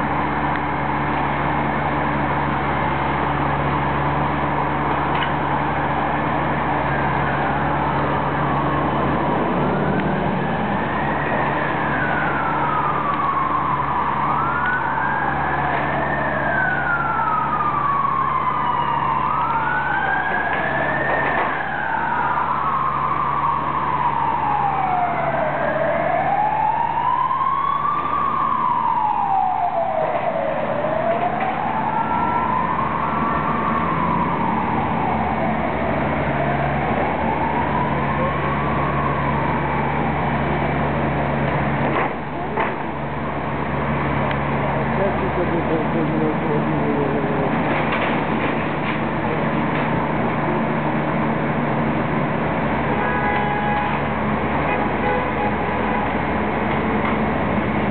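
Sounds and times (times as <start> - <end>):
emergency siren wailing: 0.0 - 57.9
low engine hum: 0.0 - 57.9.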